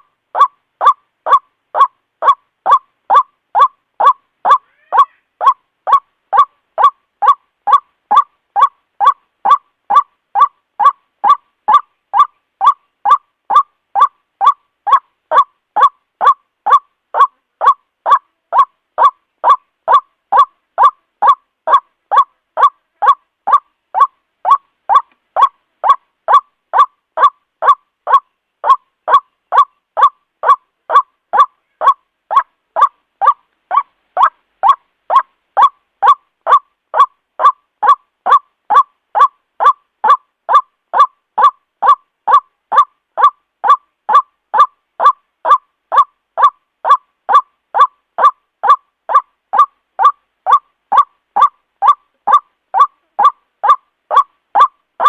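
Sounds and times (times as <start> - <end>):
white-breasted waterhen calling: 0.0 - 54.8.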